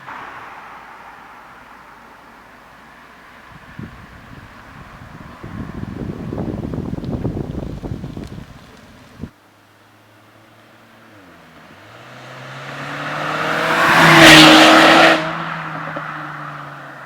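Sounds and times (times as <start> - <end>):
car engine revving: 0.0 - 9.3, 10.6 - 17.0.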